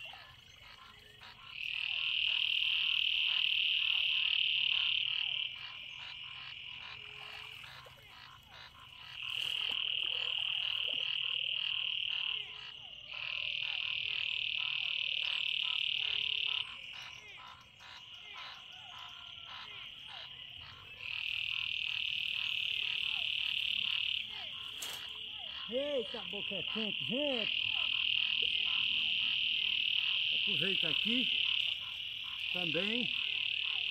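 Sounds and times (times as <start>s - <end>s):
frogs high trills: 0.0s - 33.9s
frogs rapid pulsing calls: 0.0s - 33.9s.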